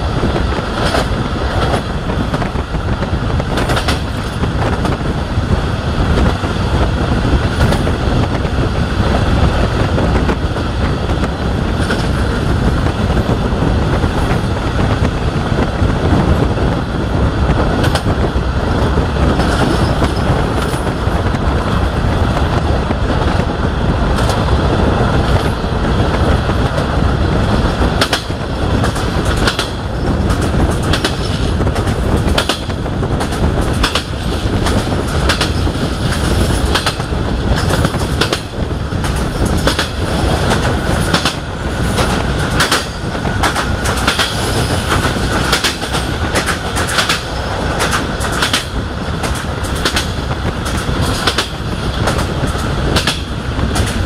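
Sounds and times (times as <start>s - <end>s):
train wheels rumbling on track: 0.0s - 54.0s
wheels clicking over rail joints: 0.0s - 54.0s.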